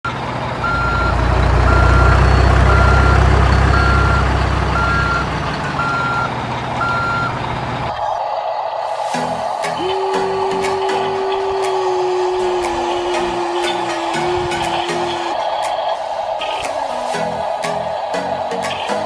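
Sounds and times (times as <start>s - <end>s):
heavy engine low rumble: 0.0s - 19.0s
truck reversing alarm beeping: 0.1s - 19.0s.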